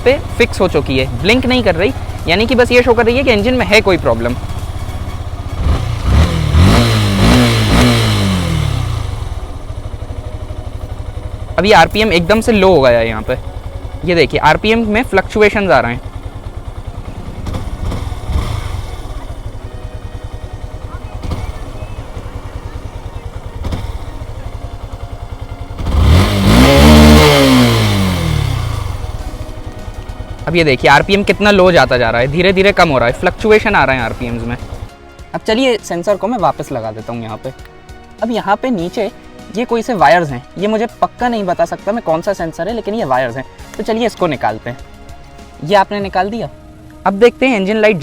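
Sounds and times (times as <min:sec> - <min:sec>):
motorcycle engine revving and idling: 0:00.0 - 0:48.0.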